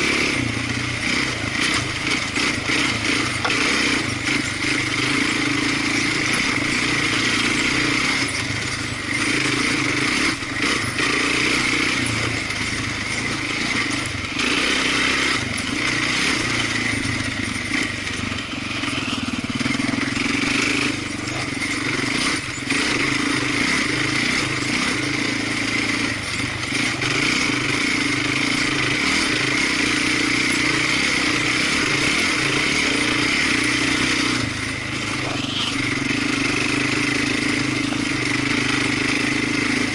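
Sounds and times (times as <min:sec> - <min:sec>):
off-road vehicle engine droning: 0:00.0 - 0:39.9.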